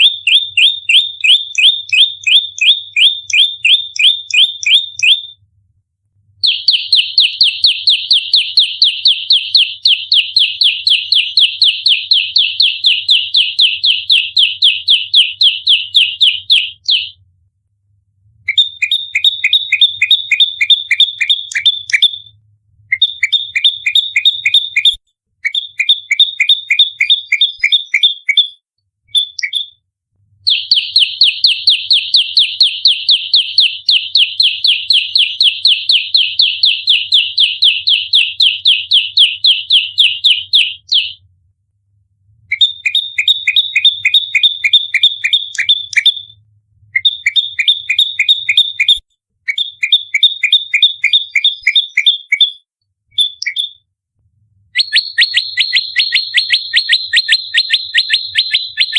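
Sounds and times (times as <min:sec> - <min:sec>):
bird sharp high chirps: 0:00.0 - 0:05.4, 0:06.4 - 0:17.2, 0:18.5 - 0:29.8, 0:30.4 - 0:41.2, 0:42.5 - 0:53.9, 0:54.7 - 0:58.9.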